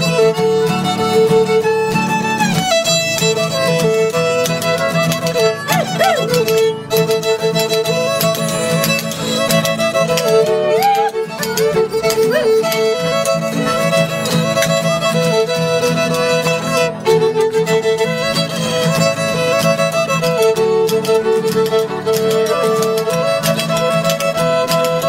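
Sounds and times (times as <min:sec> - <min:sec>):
acoustic guitar accompaniment: 0:00.0 - 0:25.0
fiddle playing lively tune: 0:00.0 - 0:25.0.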